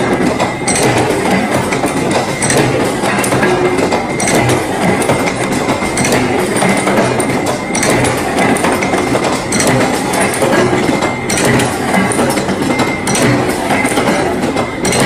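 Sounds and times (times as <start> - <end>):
chain forming machine clatter: 0.0 - 15.0.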